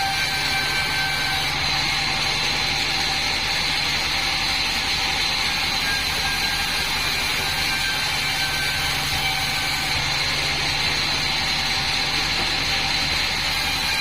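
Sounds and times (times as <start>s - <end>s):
band sawmill running: 0.0s - 14.0s
high mechanical whine: 0.0s - 14.0s.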